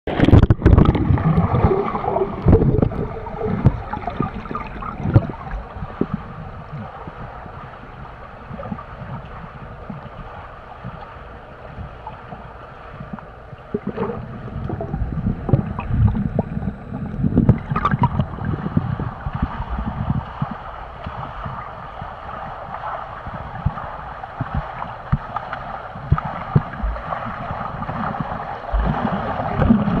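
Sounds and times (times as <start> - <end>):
churning water underwater: 0.0 - 30.0
swimmer strokes and kicks: 0.1 - 30.0.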